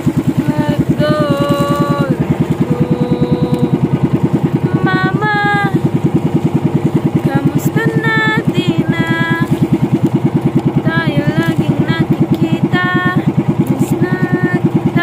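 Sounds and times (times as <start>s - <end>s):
boat engine chugging: 0.0s - 15.0s
held wavering vocal notes: 0.0s - 15.0s.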